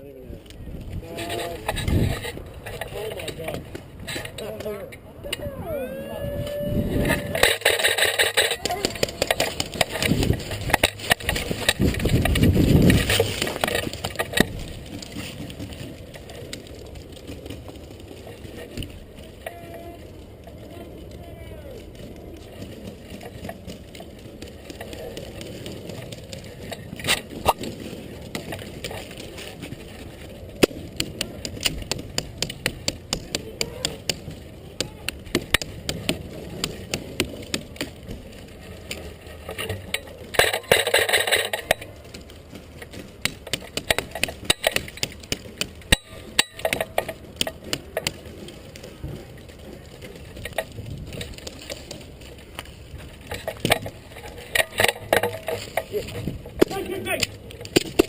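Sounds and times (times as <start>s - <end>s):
gear clicks and rattles: 0.4s - 58.0s.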